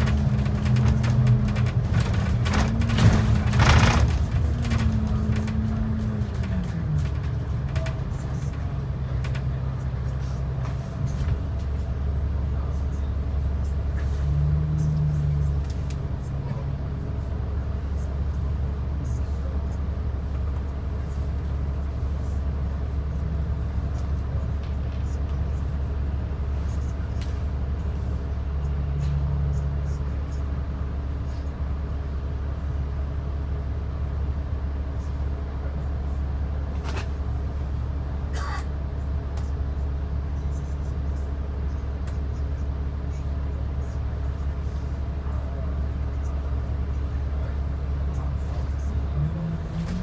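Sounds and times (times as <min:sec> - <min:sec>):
bus engine and road drone: 0:00.0 - 0:50.0.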